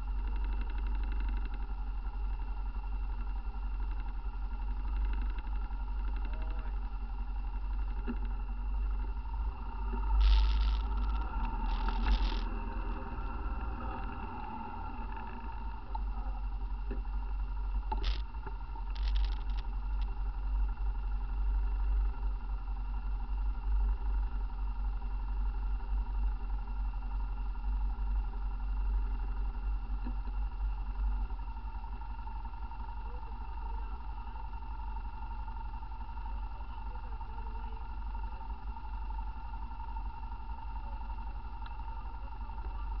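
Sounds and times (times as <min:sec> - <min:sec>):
vehicle engine idling: 0:00.0 - 0:43.0.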